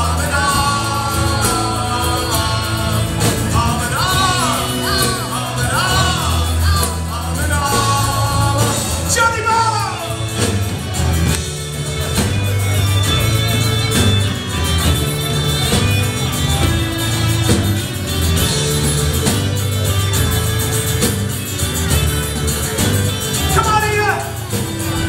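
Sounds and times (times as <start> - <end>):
bass guitar: 0.0 - 25.0
drum kit: 0.0 - 25.0
electric and acoustic guitars: 0.0 - 25.0
high sliding lead melody: 0.0 - 25.0.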